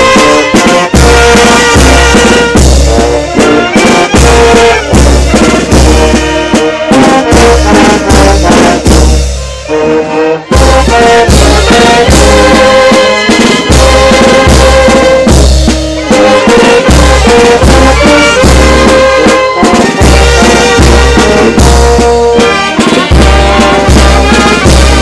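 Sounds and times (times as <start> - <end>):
snare drum hits: 0.0 - 9.1, 10.7 - 25.0
brass band playing: 0.0 - 25.0
tuba bass notes: 0.0 - 25.0.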